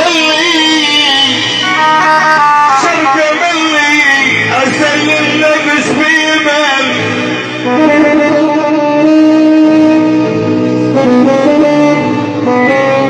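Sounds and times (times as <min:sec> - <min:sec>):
keyboard melody with saxophone voice: 0:00.0 - 0:13.0
low band accompaniment: 0:00.0 - 0:13.0.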